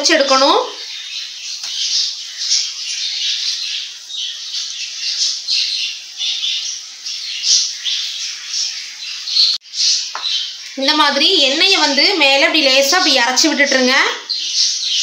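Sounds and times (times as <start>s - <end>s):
crackling sizzle of deep-frying: 0.0s - 15.0s.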